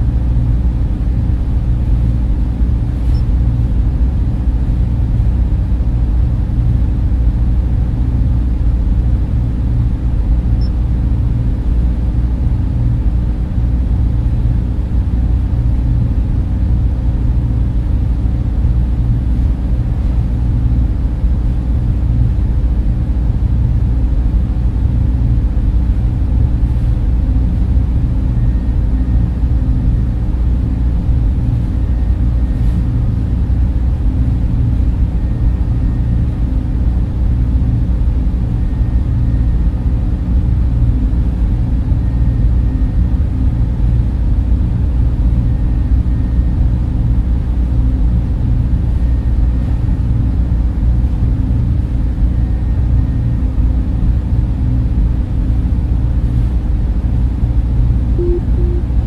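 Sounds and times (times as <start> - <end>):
cooling fans droning: 0.0 - 59.0
faint steady whine: 0.0 - 59.0.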